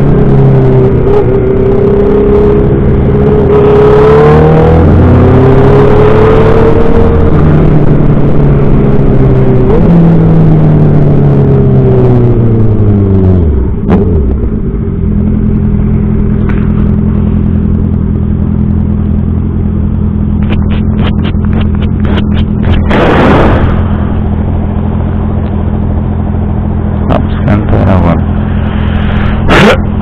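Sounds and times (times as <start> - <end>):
motorcycle engine: 0.0 - 30.0.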